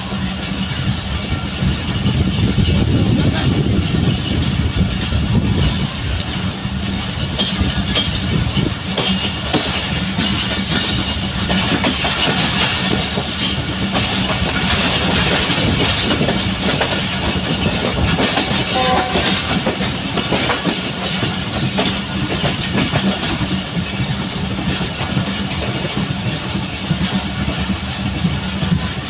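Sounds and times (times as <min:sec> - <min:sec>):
train wheels clattering over rail joints: 0:00.0 - 0:29.0.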